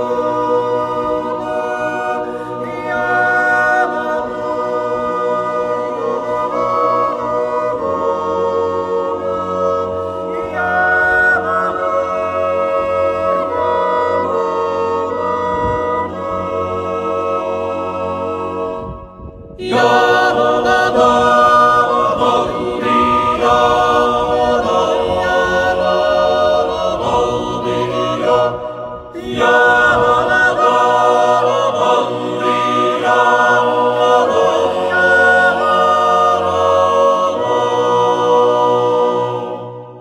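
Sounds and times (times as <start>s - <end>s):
choral singing: 0.0s - 40.0s
low held drone: 0.0s - 40.0s.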